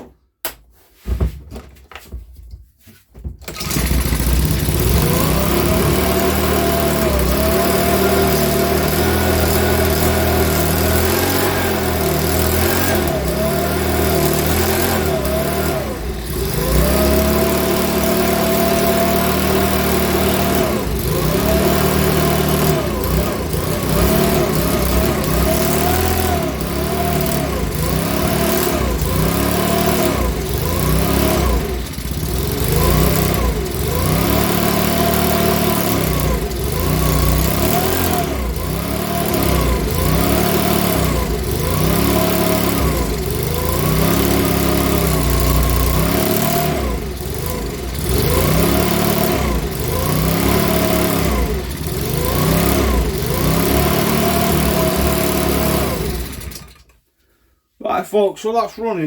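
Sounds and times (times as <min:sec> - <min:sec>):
leaf blower engine running: 0:03.4 - 0:56.8.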